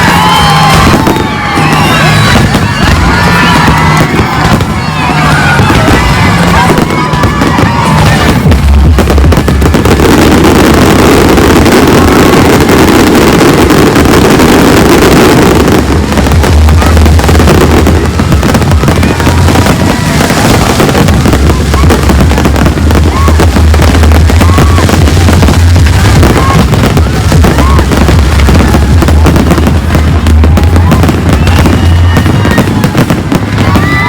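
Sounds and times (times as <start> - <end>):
crowd voices: 0.0 - 34.0
fireworks bursting: 0.0 - 34.0
music over loudspeakers: 0.0 - 34.0.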